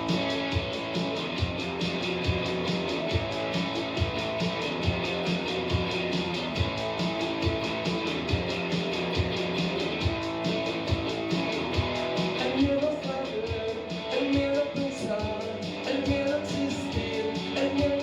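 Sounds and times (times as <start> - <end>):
guitar strumming: 0.0 - 18.0
live rock music: 0.0 - 18.0.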